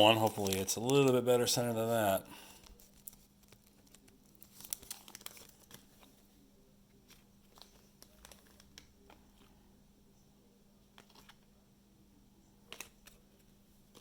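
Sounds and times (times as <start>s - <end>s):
trading cards and wrappers crinkling: 0.0s - 9.6s, 10.9s - 11.5s, 12.6s - 14.0s.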